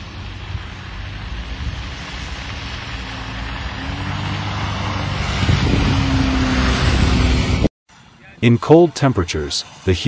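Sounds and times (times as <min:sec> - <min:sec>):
car engine and tyre noise: 0:00.0 - 0:10.0
car engine humming: 0:00.0 - 0:10.0.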